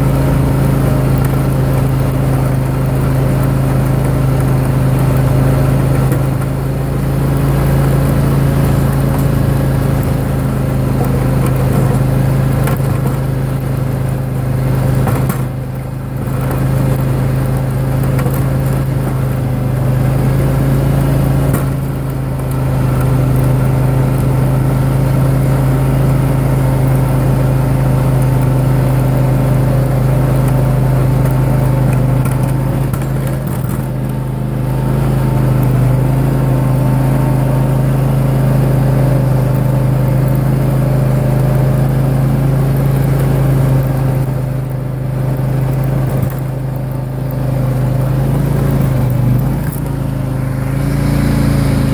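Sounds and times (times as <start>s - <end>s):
lawn tractor engine running: 0.0s - 51.9s.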